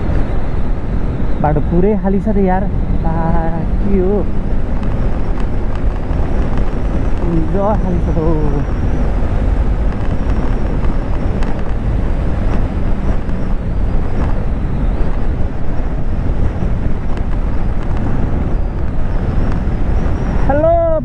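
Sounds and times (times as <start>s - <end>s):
motorcycle engine and road noise: 0.0s - 21.0s
wind rumble on microphone: 0.0s - 21.0s.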